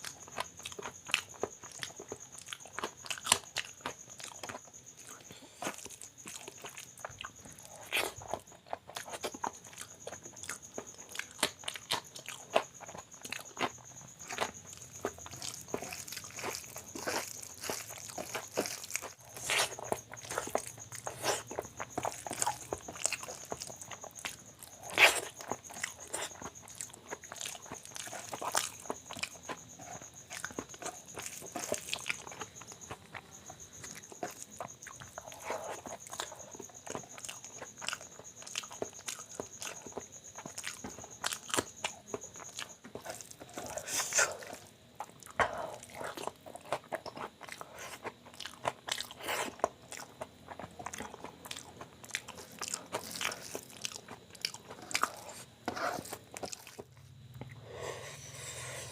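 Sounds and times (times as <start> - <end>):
crunching bites: 0.0 - 57.6
wet chewing: 0.0 - 58.9.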